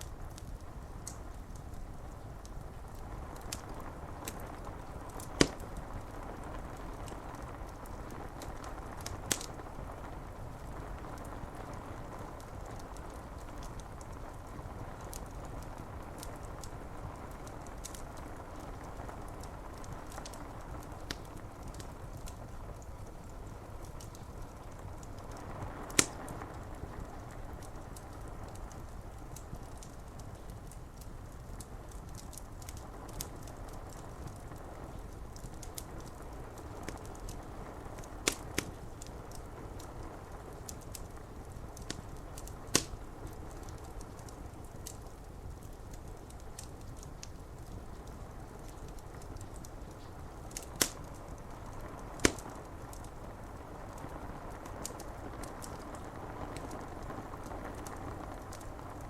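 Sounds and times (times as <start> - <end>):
rain on window glass: 0.0 - 59.0
sharp pops from fire: 0.0 - 59.0
wood fire crackling: 0.0 - 59.0.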